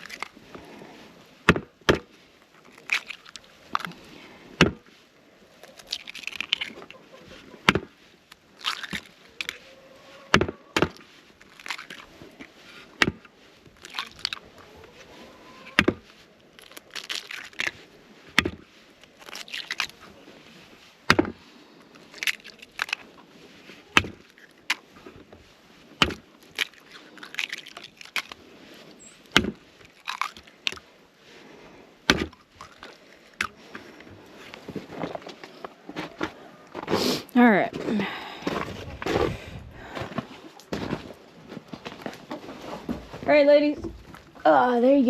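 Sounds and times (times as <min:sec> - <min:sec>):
chickens pecking eggshells: 0:00.0 - 0:37.1, 0:37.9 - 0:45.0.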